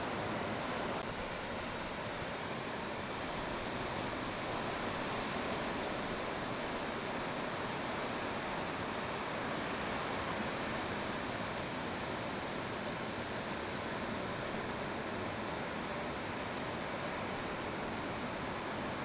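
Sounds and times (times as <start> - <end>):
ocean surf roaring: 0.0 - 19.0.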